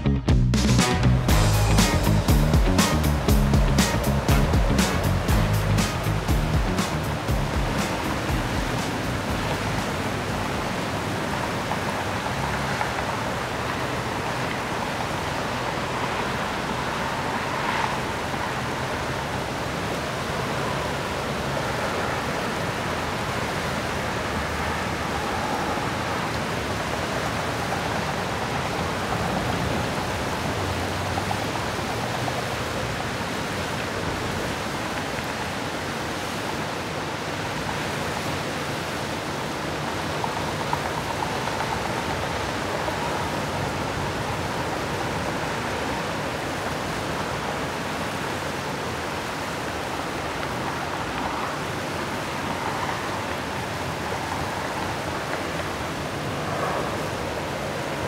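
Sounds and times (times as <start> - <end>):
floodwater rushing through culverts: 0.9 - 58.0.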